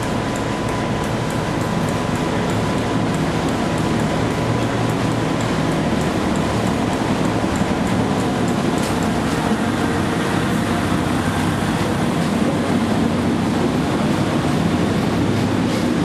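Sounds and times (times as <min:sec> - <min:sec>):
diesel train passing: 0:00.0 - 0:16.0.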